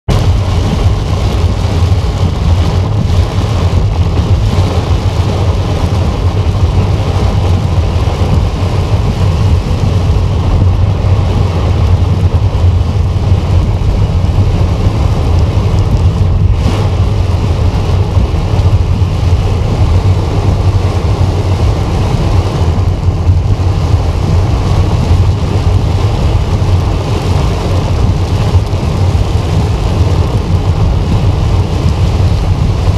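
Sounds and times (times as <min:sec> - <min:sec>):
car engine and tyres rumbling: 0:00.0 - 0:32.9
rain hissing on car roof: 0:00.1 - 0:32.9.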